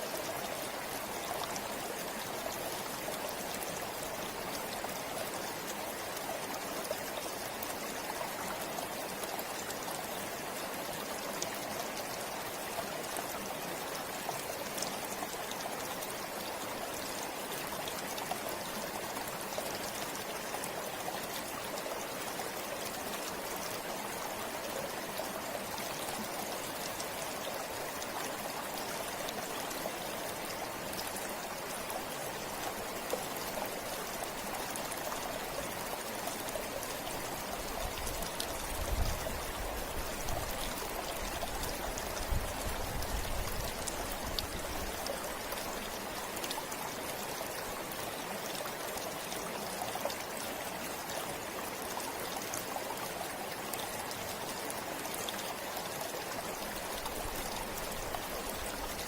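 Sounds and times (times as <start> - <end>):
river water rushing over rocks: 0.0 - 59.0
water trickling: 0.0 - 59.0.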